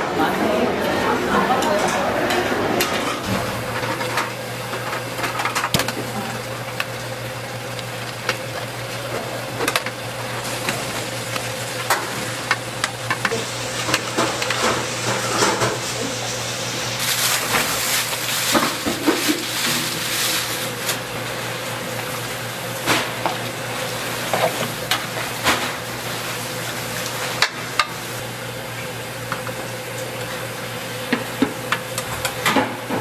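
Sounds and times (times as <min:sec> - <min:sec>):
broth boiling and bubbling: 0:03.2 - 0:33.0.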